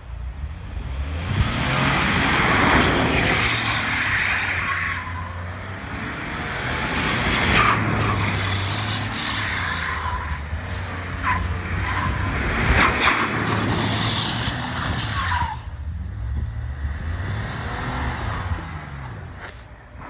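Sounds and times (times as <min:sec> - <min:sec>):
car engine revving: 0:00.8 - 0:20.0.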